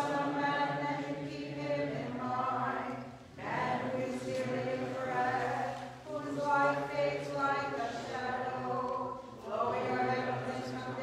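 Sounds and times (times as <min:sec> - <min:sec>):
voices singing a chant: 0:00.0 - 0:11.0.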